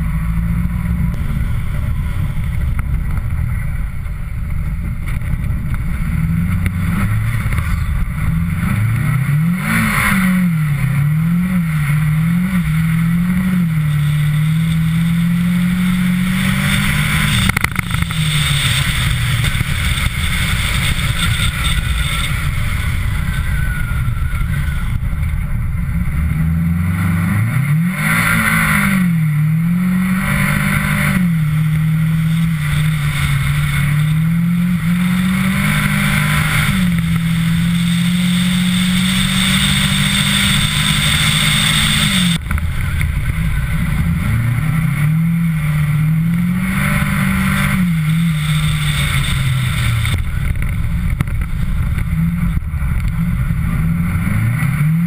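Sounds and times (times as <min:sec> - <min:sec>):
car engine revving: 0:00.0 - 0:55.0
tyre and wind noise: 0:00.0 - 0:55.0.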